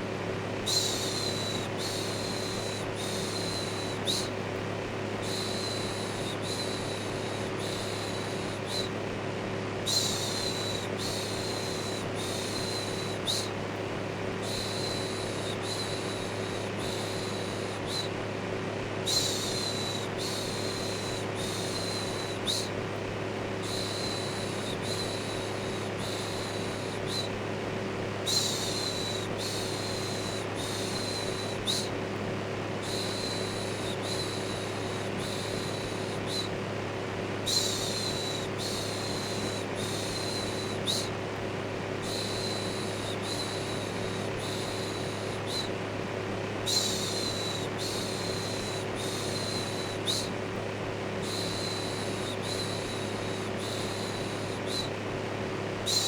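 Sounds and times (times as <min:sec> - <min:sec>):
electric fan humming: 0:00.0 - 0:56.0.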